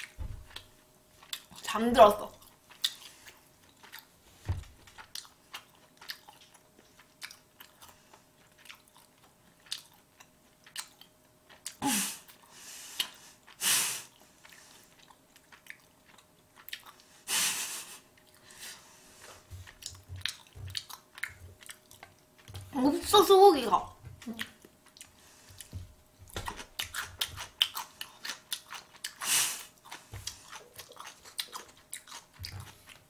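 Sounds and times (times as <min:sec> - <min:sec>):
wet chewing mouth sounds: 0:00.0 - 0:01.7, 0:02.3 - 0:17.2, 0:17.8 - 0:22.8, 0:24.0 - 0:33.0.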